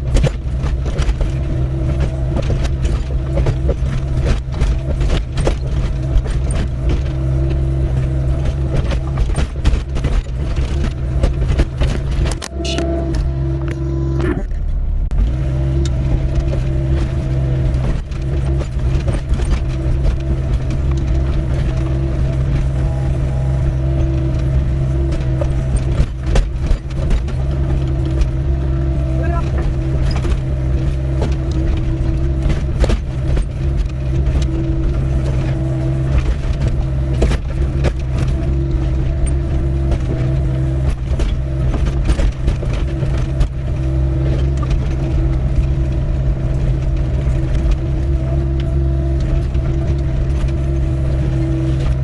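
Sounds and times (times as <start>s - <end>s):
excavator engine running: 0.0s - 52.0s.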